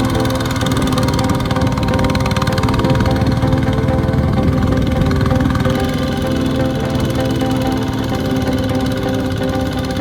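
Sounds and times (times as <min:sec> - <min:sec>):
music playing: 0:00.0 - 0:10.0
small tractor engine running: 0:00.0 - 0:10.0.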